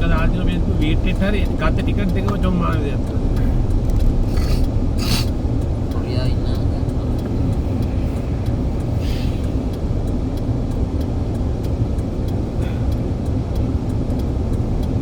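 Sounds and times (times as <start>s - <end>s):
faint light ticks: 0.0s - 15.0s
moving vehicle rumble: 0.0s - 15.0s.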